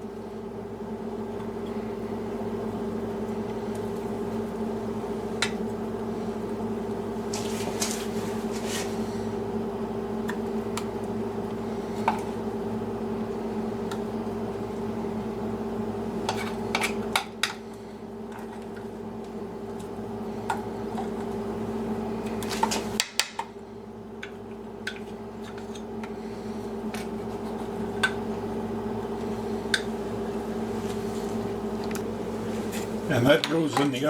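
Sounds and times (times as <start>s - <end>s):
kitchen appliance hum: 0.0s - 34.0s.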